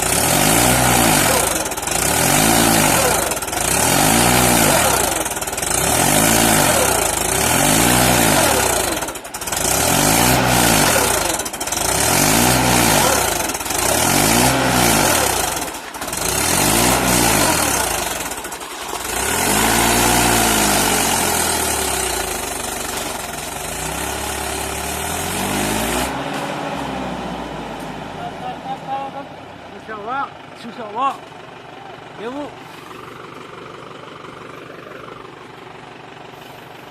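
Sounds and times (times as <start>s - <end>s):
tractor engine revving: 0.0s - 36.9s.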